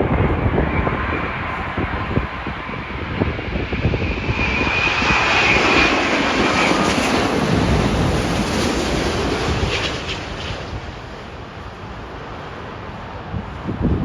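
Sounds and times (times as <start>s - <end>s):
airliner engine roar: 0.0s - 14.0s
wind gusting against microphone: 0.0s - 14.0s.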